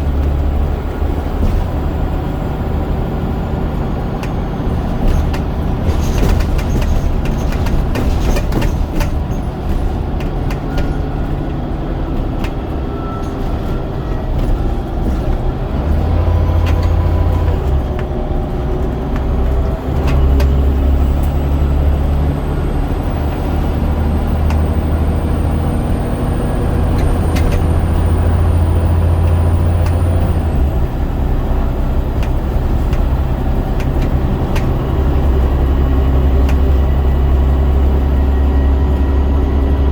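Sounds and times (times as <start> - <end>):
bus body rattles: 0.0 - 39.9
bus diesel engine: 0.0 - 39.9.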